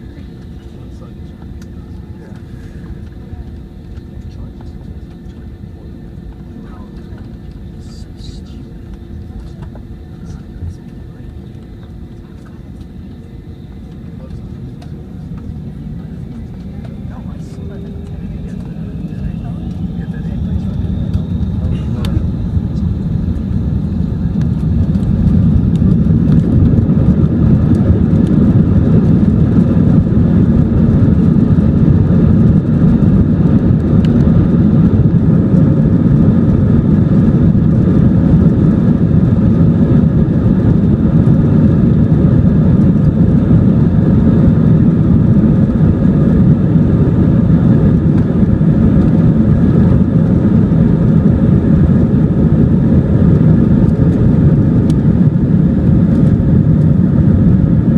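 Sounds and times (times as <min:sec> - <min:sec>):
jet engines at high thrust: 0:00.0 - 0:57.9.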